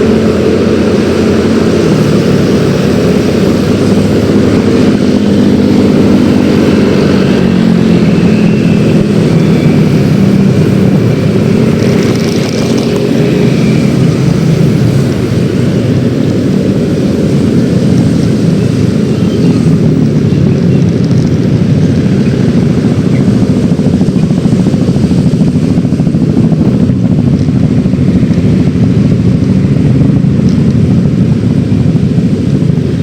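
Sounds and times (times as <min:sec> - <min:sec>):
scooter engine running: 0:00.0 - 0:33.0
wind rush on microphone: 0:00.0 - 0:33.0.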